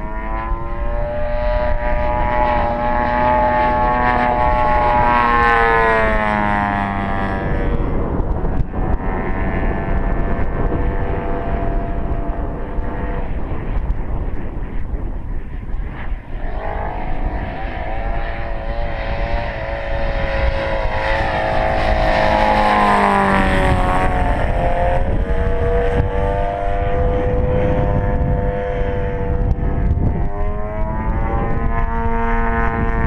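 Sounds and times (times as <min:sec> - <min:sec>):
model plane engine in flight: 0:00.0 - 0:33.0.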